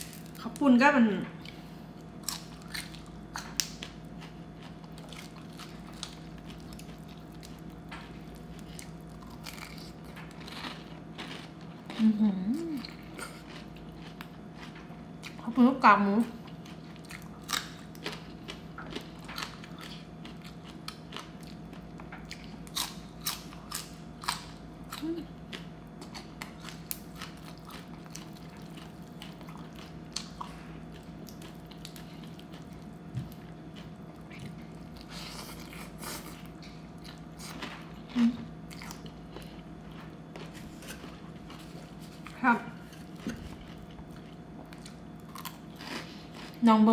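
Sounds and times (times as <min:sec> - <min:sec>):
crunchy chewing: 0:01.4 - 0:15.5, 0:16.3 - 0:46.6.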